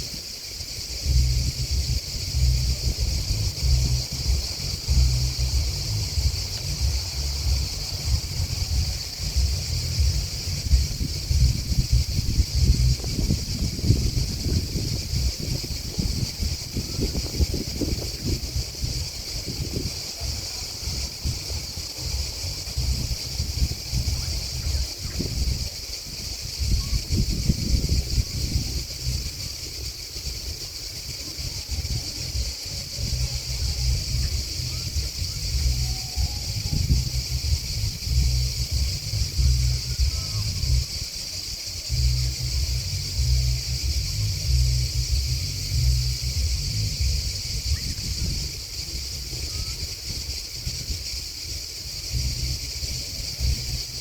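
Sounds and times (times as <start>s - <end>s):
grasshoppers and crickets chirping: 0.0s - 54.0s
gusty wind on microphone: 0.0s - 54.0s.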